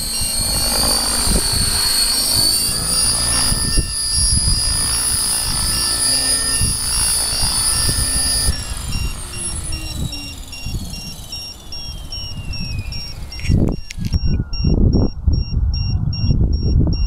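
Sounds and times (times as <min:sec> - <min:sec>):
model helicopter rotor whine: 0:00.0 - 0:15.3
gusty low rumble: 0:00.0 - 0:17.0.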